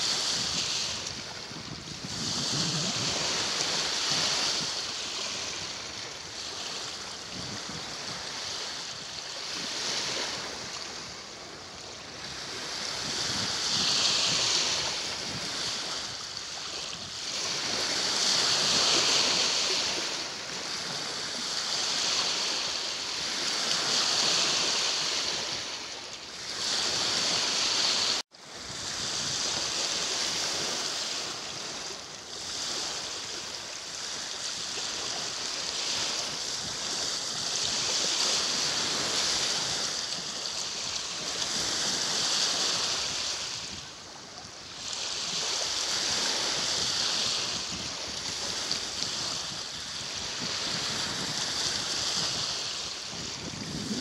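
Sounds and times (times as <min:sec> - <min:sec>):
waves washing onto pebbly beach: 0:00.0 - 0:54.0.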